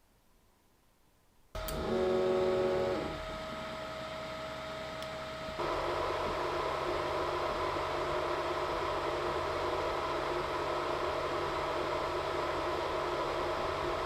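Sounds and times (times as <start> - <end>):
machine humming and hissing: 1.6 - 14.0.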